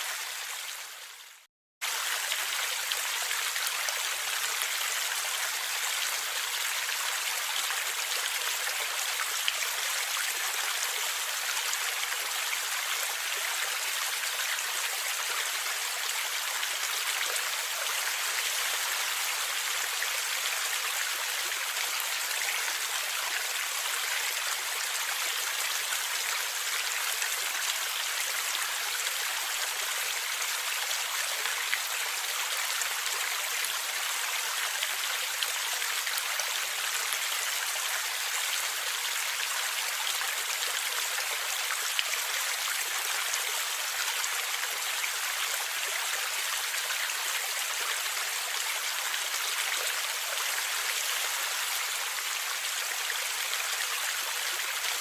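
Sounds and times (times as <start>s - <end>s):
stream gurgling over rocks: 0.0s - 55.0s.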